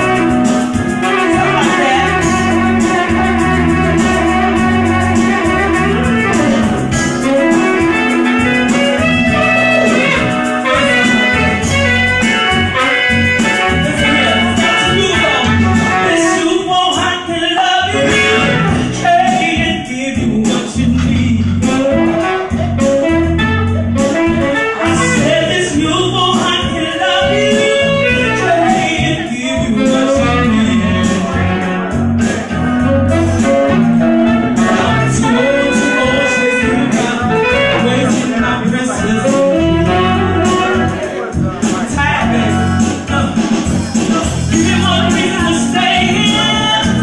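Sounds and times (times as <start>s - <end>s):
instrumental backing music: 0.0s - 47.0s.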